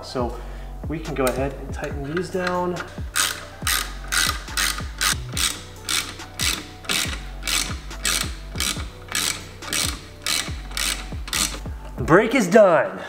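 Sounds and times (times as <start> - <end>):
ratchet wrench clicking: 1.1 - 11.7.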